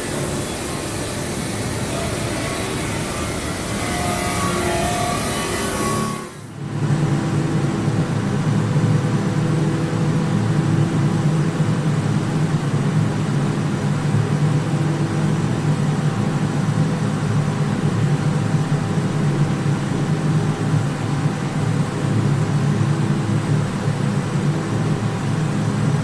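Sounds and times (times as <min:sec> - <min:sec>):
industrial machinery humming: 0:00.0 - 0:26.0.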